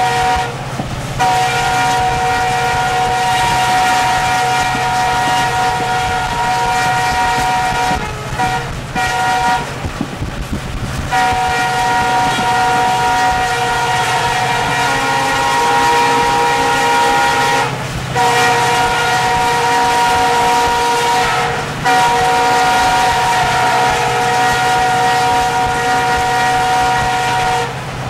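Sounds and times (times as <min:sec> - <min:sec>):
locomotive air horn blasts: 0:00.0 - 0:10.0, 0:10.7 - 0:27.8
moving train rumble: 0:00.0 - 0:28.0.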